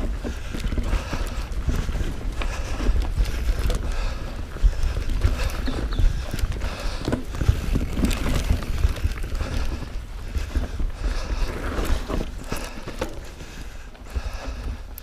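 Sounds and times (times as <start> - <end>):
bike rattling over bumps: 0.0 - 15.0
tyres on dirt: 0.0 - 15.0
wind buffeting microphone: 0.0 - 15.0.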